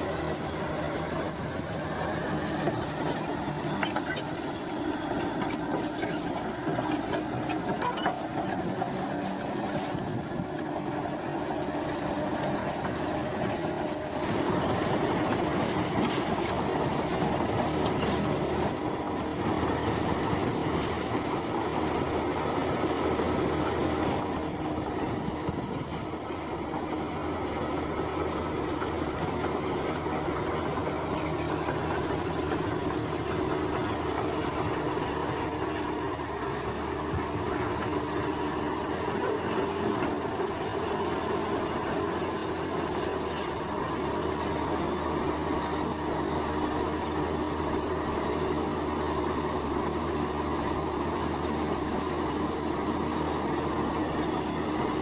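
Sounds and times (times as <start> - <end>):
diesel engine hum: 0.0 - 55.0
steel tracks squealing and clattering: 0.0 - 55.0.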